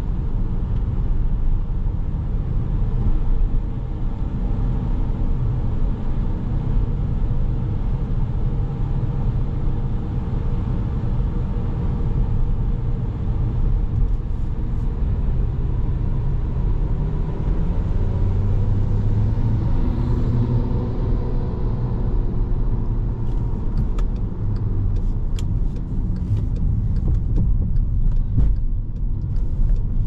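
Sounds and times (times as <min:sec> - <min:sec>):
car engine droning: 0:00.0 - 0:30.0
road and tyre noise: 0:00.0 - 0:30.0.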